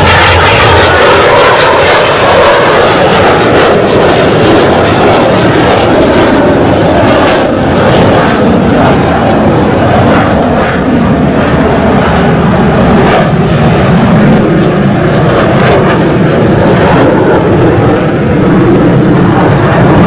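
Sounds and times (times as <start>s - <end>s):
aircraft engine flying over: 0.0s - 20.0s.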